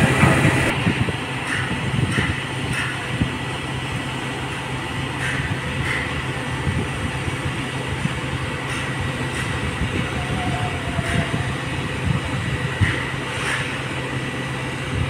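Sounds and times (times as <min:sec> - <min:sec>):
crane engine rumble: 0:00.0 - 0:15.0.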